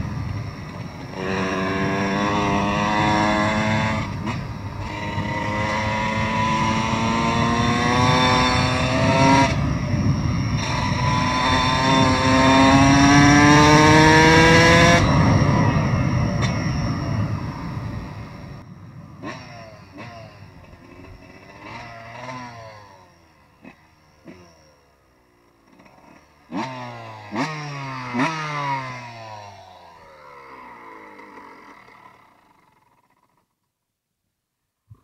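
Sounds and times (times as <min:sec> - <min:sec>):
dirt bike engine accelerating: 0:00.0 - 0:33.5.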